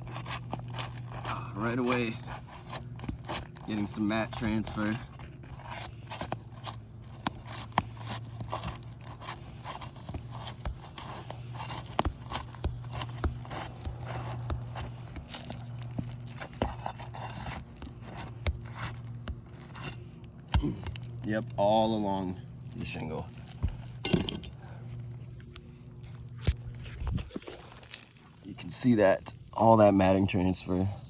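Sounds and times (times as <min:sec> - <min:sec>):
shingles crackling and scraping: 0:00.0 - 0:30.5
steady low hum: 0:00.0 - 0:31.0.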